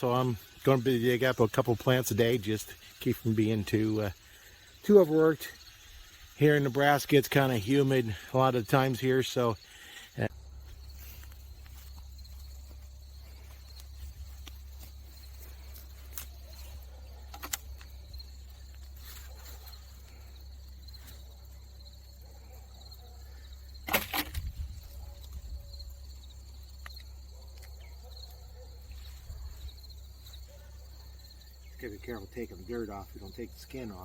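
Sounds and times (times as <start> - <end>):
insects trilling: 0.0 - 34.0.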